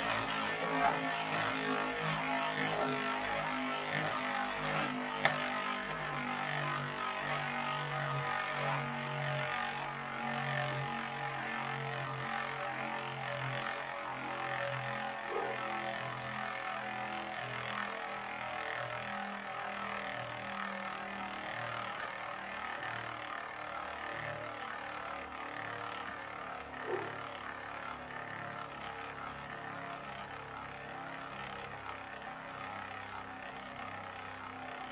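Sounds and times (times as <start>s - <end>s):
spinning tops whirring and scraping: 0.0s - 34.9s.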